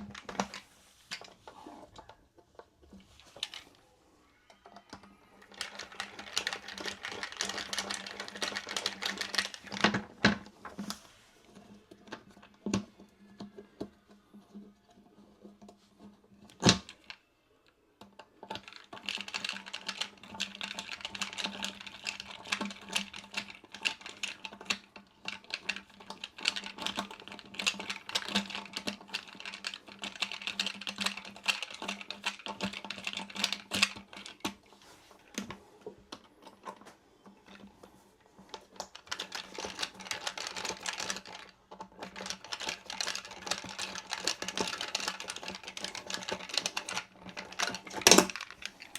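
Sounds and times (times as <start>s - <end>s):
small hard parts clicking and rattling: 0.0s - 48.9s.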